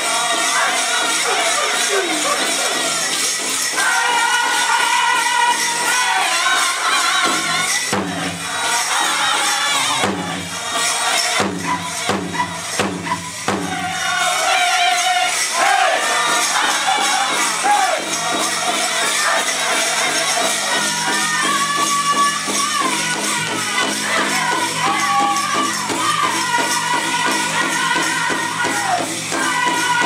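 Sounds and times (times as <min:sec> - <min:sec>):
bells jingling: 0:00.0 - 0:30.0
drum group singing: 0:00.0 - 0:30.0
steady drumbeat: 0:00.0 - 0:30.0.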